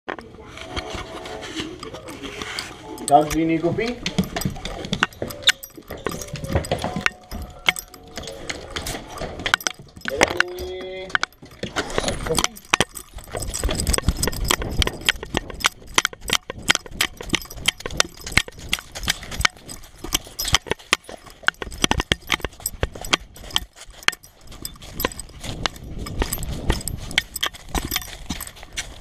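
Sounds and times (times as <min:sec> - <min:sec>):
dog footsteps on grass and snow: 0:00.4 - 0:29.0.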